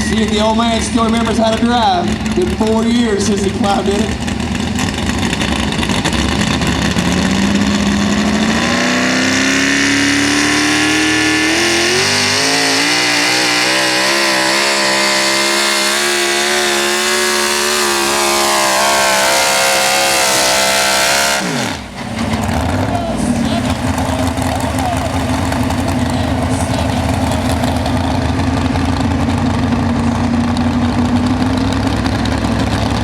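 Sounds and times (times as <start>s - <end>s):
truck engine revving under load: 0.0s - 33.0s.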